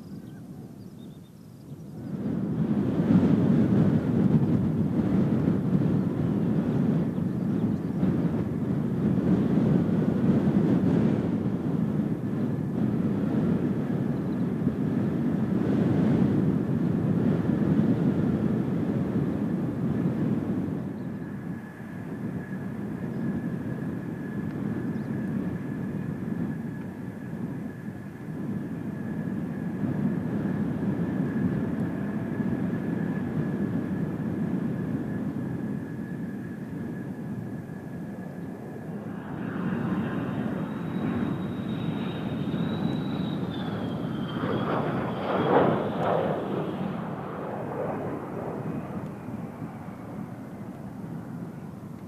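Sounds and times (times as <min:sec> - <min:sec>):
jet turbine engine whine: 0:00.0 - 0:52.0
wind rumble on microphone: 0:00.0 - 0:52.0.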